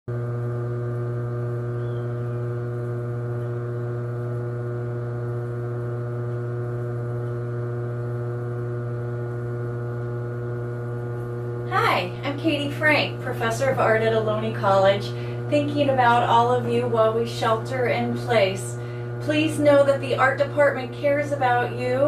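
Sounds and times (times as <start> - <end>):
potter's wheel motor humming: 0.0 - 22.0.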